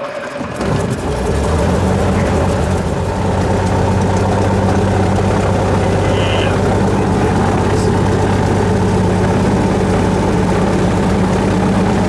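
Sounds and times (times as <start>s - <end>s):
aircraft engine starting and idling: 0.0s - 12.0s.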